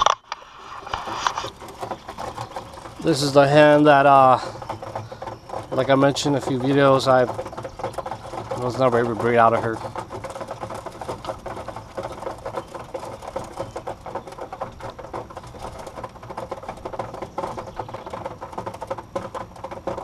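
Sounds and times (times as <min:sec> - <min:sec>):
pigeons scratching and clicking: 0:00.0 - 0:20.0
wing flutters: 0:00.0 - 0:20.0.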